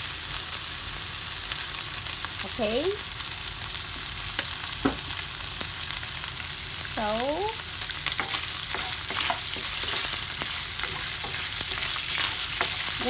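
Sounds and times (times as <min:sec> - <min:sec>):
pork sizzling in oil: 0:00.0 - 0:13.0.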